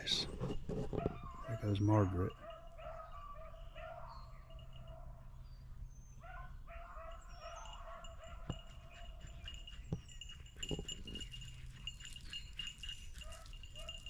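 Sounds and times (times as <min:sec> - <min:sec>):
distant hounds baying: 0:00.0 - 0:05.3, 0:06.0 - 0:14.0.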